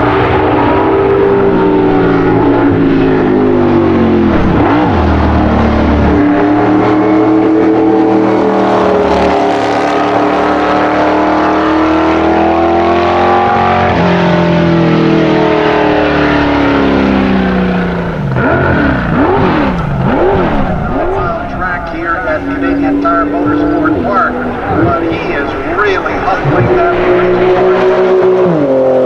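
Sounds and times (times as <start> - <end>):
gear change: 0.0 - 12.2, 13.4 - 28.6
race car engine revving: 0.0 - 29.0.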